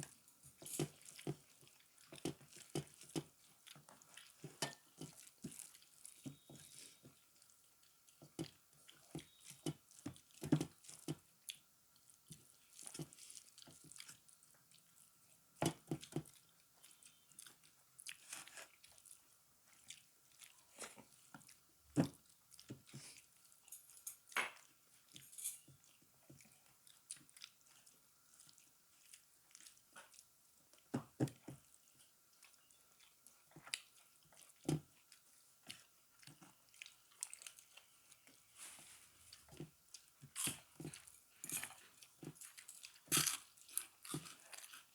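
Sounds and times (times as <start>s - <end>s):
food crunching: 0.0s - 38.6s, 39.2s - 44.9s
person chewing food: 0.0s - 44.9s.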